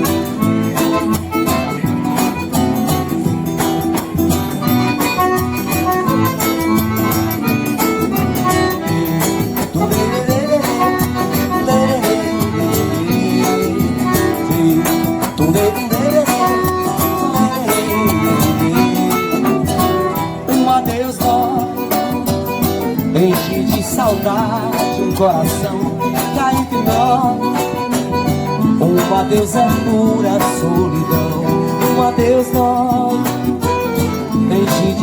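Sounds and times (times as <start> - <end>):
accordion melody: 0.0 - 35.0
guitar: 0.0 - 35.0
percussion beat: 0.0 - 35.0.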